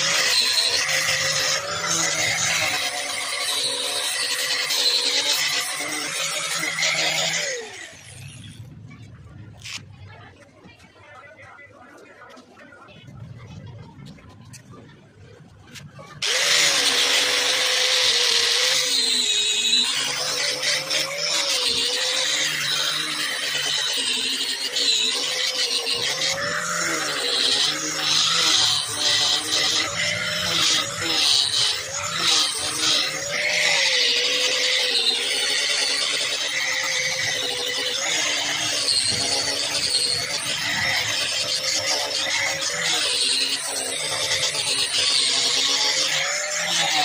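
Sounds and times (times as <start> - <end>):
angle grinder sanding wood: 0.0 - 8.0, 16.2 - 47.0.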